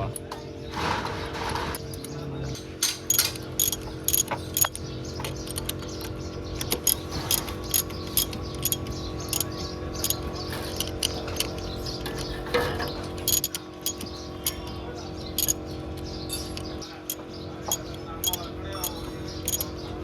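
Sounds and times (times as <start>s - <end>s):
engine ticking and clicking: 3.0s - 20.0s
motorcycle engine running: 3.1s - 20.0s.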